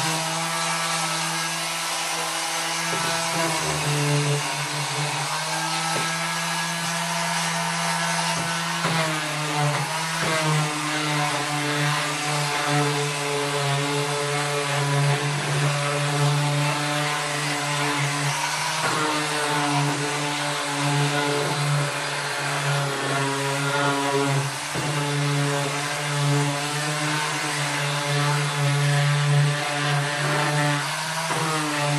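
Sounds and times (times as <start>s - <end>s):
orbital sander on wood: 0.0s - 31.9s.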